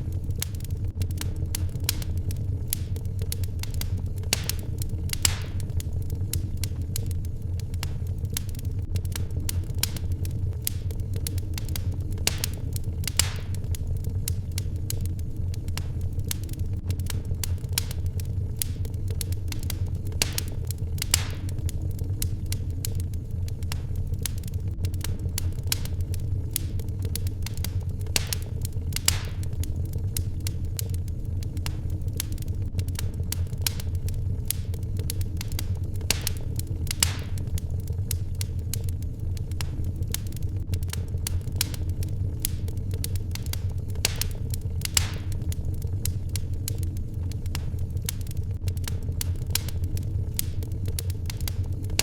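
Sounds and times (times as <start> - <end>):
fire crackling and popping: 0.0 - 52.0
low rumble: 0.0 - 52.0.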